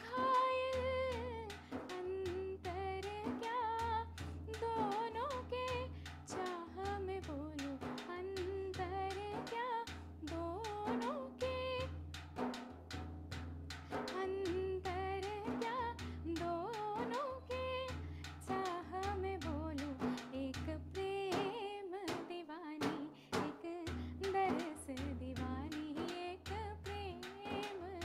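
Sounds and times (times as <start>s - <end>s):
woman singing: 0.0s - 12.0s, 13.9s - 28.0s.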